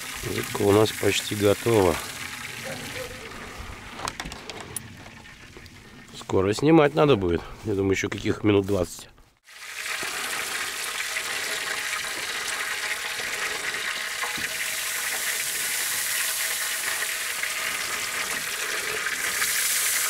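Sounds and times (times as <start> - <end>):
fish sizzling: 0.0 - 6.2, 9.4 - 20.0.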